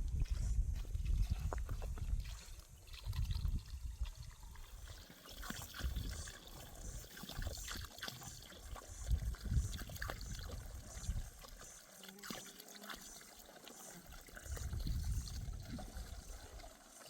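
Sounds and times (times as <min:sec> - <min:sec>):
water trickling and pouring: 0:00.1 - 0:17.0
small splashes: 0:01.2 - 0:17.0.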